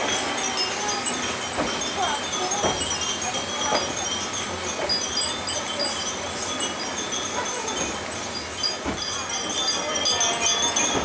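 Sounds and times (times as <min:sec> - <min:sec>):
wind chimes tinkling: 0:00.0 - 0:11.0.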